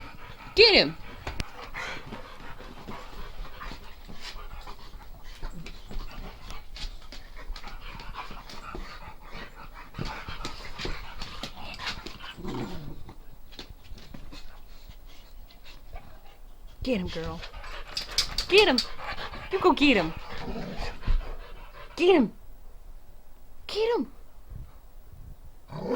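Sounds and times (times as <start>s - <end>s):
dogs scuffling: 0.0s - 21.9s
dogs panting: 0.0s - 22.4s.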